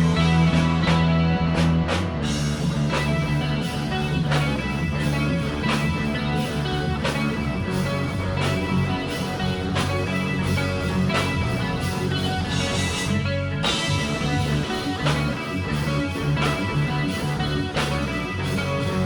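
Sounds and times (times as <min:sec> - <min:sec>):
instrumental rock band music: 0:00.0 - 0:19.0.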